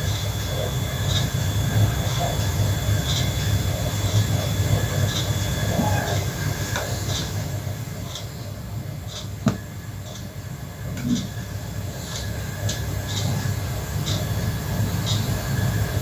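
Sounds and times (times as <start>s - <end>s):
gas burner flame rumbling: 0.0s - 16.0s.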